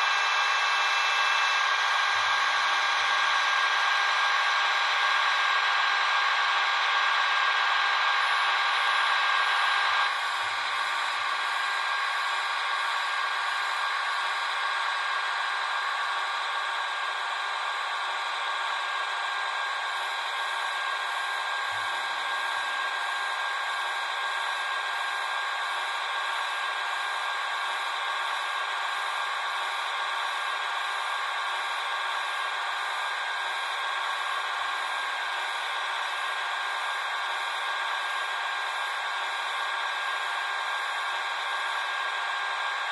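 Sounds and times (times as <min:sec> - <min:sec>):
model crane motor whirring: 0:00.0 - 0:42.9.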